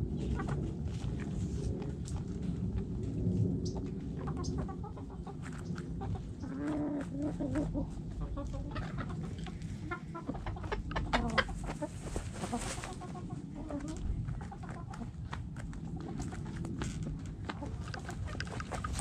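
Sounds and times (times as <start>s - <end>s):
chickens scratching in dirt: 0.0s - 19.0s
chickens clucking: 3.6s - 19.0s.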